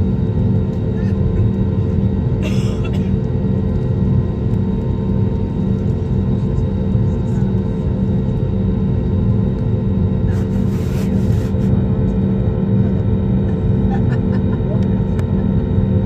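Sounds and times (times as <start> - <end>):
aeroplane cabin engine drone: 0.0 - 16.0.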